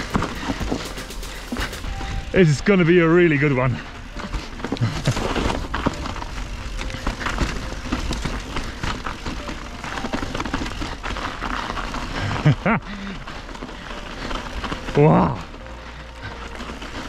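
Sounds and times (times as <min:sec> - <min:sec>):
bike tyres on snow and stone: 0:00.0 - 0:17.0.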